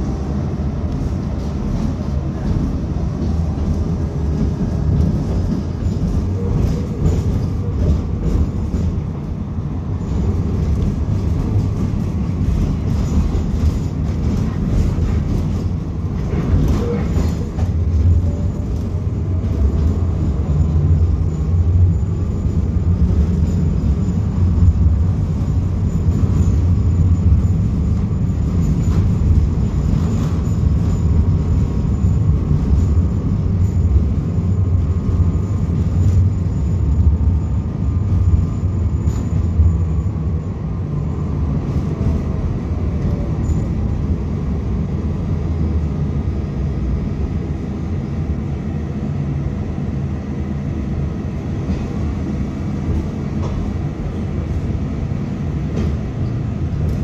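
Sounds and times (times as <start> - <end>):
tram wheels rumbling on rail: 0.0 - 57.0.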